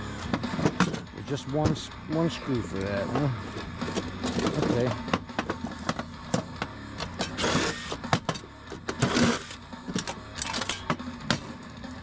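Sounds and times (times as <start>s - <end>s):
metal parts clinking and knocking: 0.1s - 1.9s, 2.8s - 11.5s.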